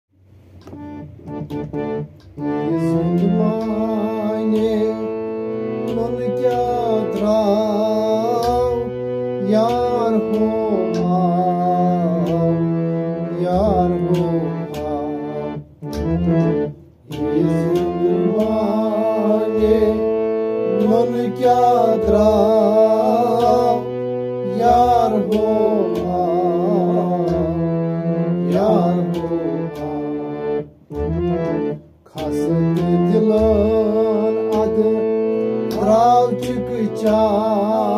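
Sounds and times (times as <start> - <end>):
harmonium melody: 0.1 - 37.9
man singing: 2.6 - 15.6, 17.1 - 30.5, 32.1 - 37.9.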